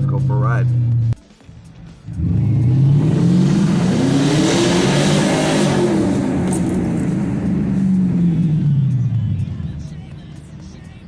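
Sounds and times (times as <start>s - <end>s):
car engine accelerating: 0.0s - 1.2s, 1.8s - 11.0s.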